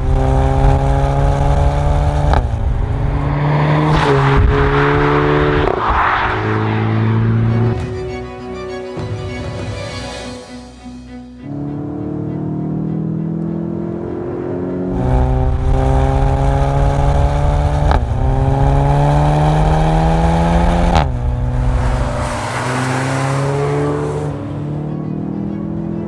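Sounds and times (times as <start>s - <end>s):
car engine accelerating hard: 0.0s - 7.9s, 11.5s - 26.0s.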